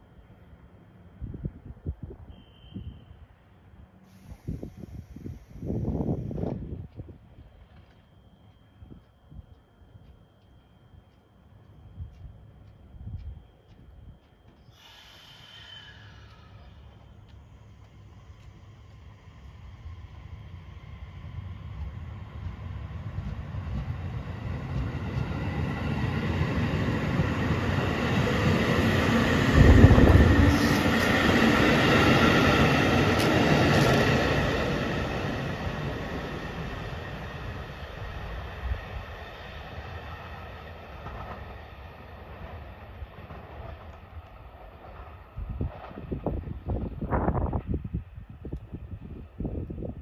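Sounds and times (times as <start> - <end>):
train wheels rolling over rails: 6.1 - 49.9.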